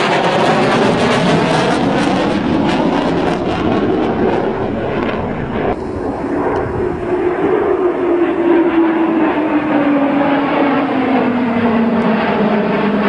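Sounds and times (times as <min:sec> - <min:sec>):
fighter jet roaring: 0:00.0 - 0:13.0.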